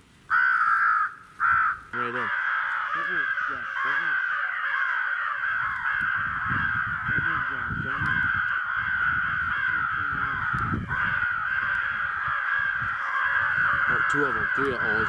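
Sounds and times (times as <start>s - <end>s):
crows cawing: 0.3s - 15.0s.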